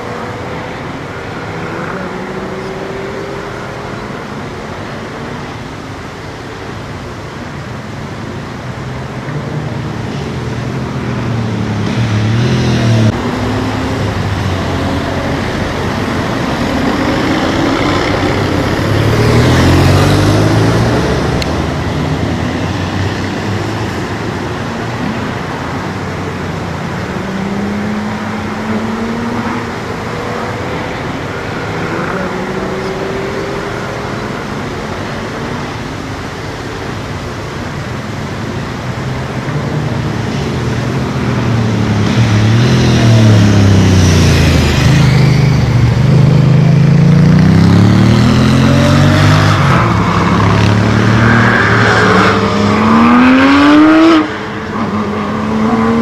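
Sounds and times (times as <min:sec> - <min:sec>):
car engines revving past: 0:00.0 - 0:56.0
road noise: 0:00.0 - 0:56.0.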